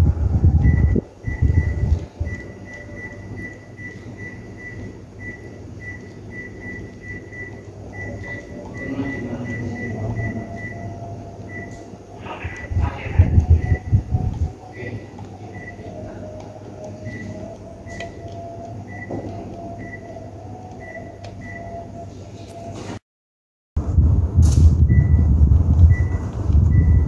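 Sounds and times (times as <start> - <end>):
air conditioner humming: 0.0 - 23.0, 23.8 - 27.0
pulsing high tone: 0.2 - 22.7.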